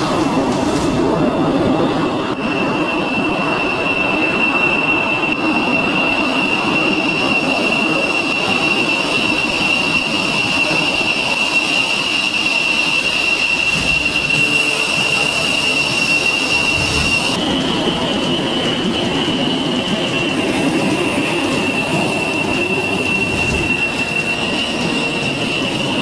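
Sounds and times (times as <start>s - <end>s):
jet engine high whine: 0.0s - 26.0s
jet engine rushing roar: 0.0s - 26.0s.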